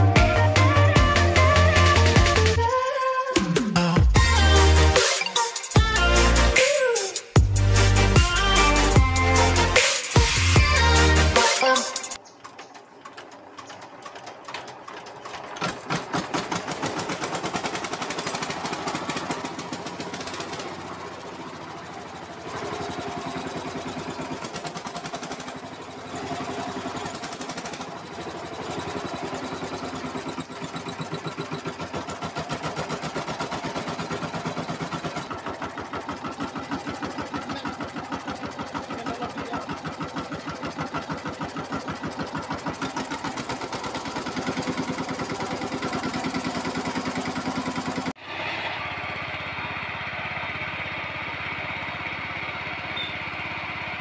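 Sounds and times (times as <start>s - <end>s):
diesel engine running: 0.0s - 5.0s, 5.8s - 6.6s, 7.4s - 11.4s, 12.2s - 54.0s.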